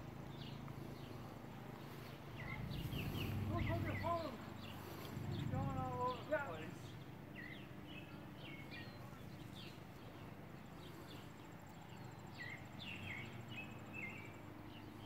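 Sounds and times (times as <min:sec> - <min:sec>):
low background noise: 0:00.0 - 0:15.0
small birds chirping: 0:00.0 - 0:15.0.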